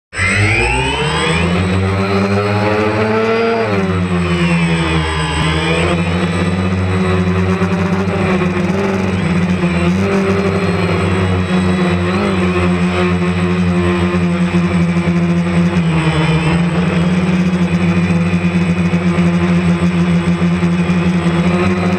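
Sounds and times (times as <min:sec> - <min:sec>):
drone propellers buzzing: 0:00.1 - 0:21.9.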